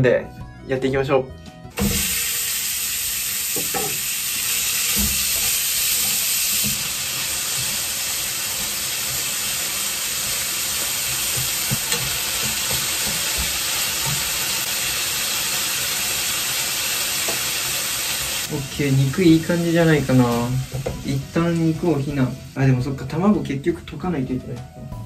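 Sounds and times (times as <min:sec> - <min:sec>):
meat sizzling in a frying pan: 0:01.8 - 0:23.1.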